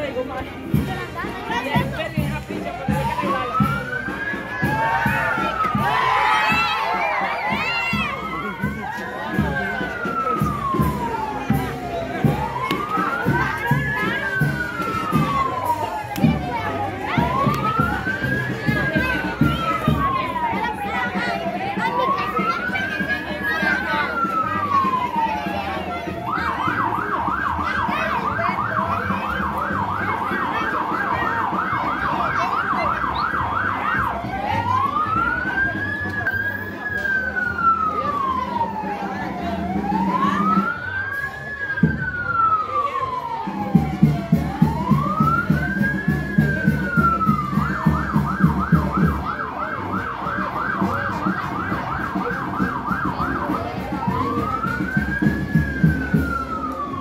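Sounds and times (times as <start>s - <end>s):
emergency vehicle siren: 0.0s - 57.0s.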